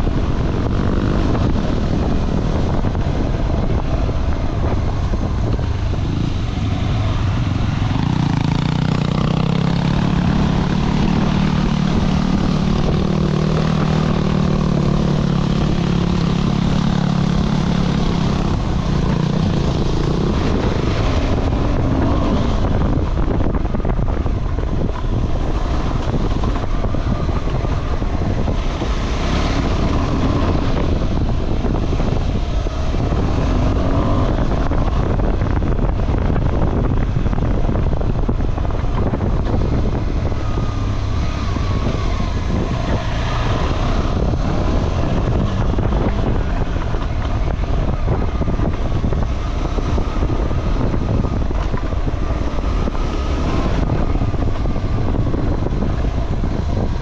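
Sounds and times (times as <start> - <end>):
motorcycle engine: 0.0 - 57.0
wind buffeting microphone: 0.0 - 57.0.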